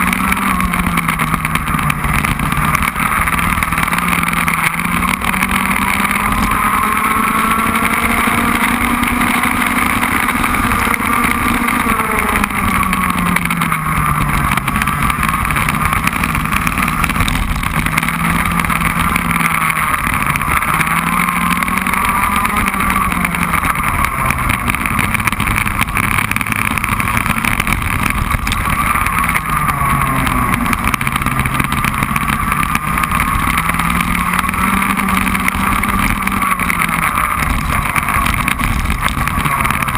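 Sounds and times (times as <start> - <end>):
kart engine accelerating and slowing: 0.0 - 39.9.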